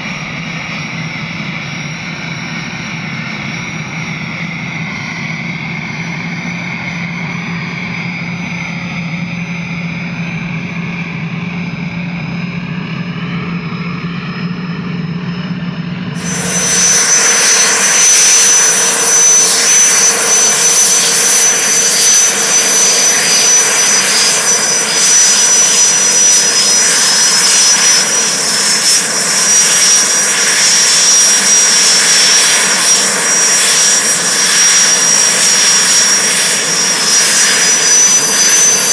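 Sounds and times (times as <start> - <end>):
helicopter rotor noise: 0.0 - 38.9
helicopter turbine whine: 0.0 - 38.9.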